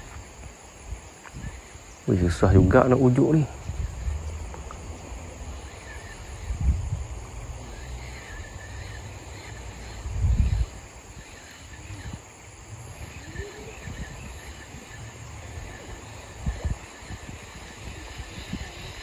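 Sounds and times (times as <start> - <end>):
small wildlife chirping: 1.2 - 19.0.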